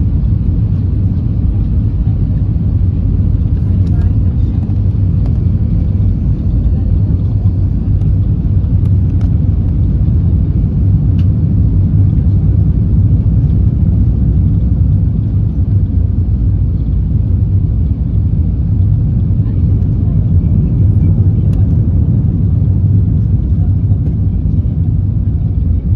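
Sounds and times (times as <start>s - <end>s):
airplane cabin engine rumble: 0.0s - 25.9s.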